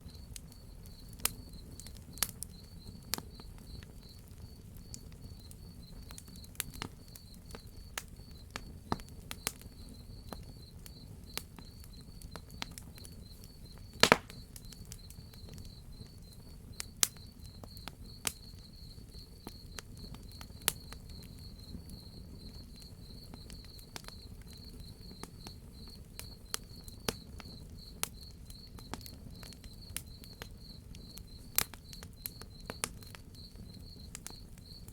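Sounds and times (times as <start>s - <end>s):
crickets chirping: 0.0s - 34.9s
wood fire crackling and popping: 0.0s - 34.9s.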